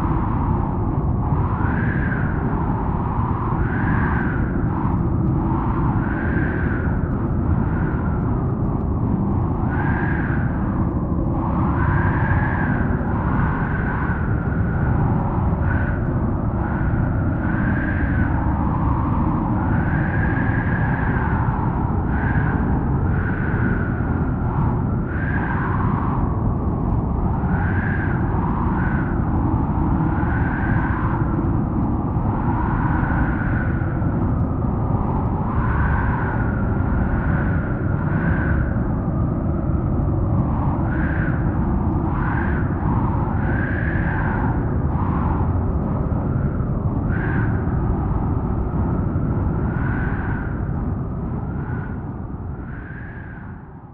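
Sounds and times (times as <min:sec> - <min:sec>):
howling wind: 0:00.0 - 0:53.9.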